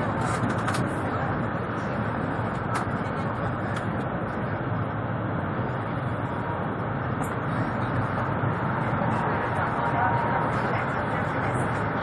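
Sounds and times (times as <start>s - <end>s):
train rumble from inside cabin: 0.0s - 12.0s.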